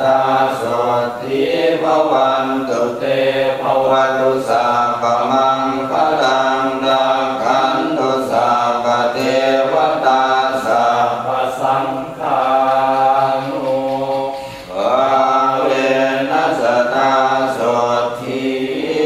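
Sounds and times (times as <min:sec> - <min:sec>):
melodic chanting: 0:00.0 - 0:19.0.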